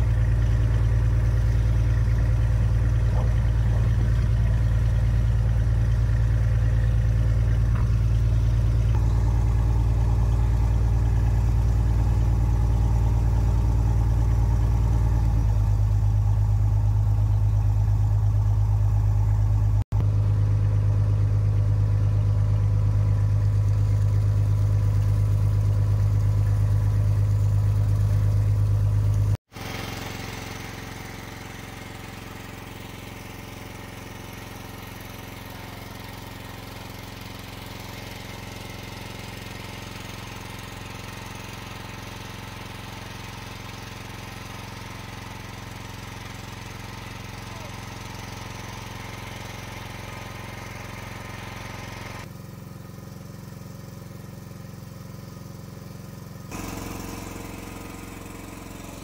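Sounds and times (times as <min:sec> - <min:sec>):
boat engine droning: 0:00.0 - 0:52.2, 0:56.5 - 0:59.0.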